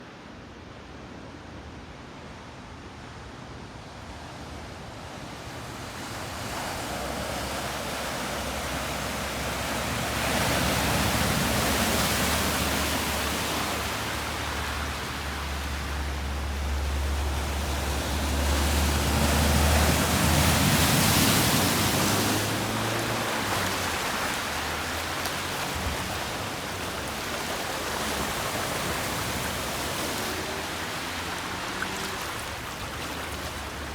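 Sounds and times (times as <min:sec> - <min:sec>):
rushing floodwater: 0:03.7 - 0:33.9.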